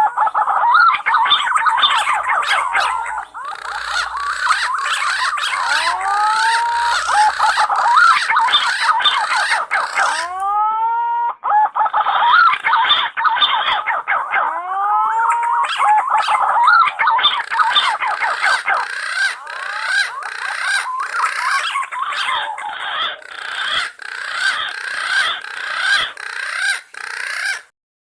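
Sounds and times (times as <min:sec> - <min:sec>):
pigeons calling fluting whistles: 0:00.0 - 0:27.6.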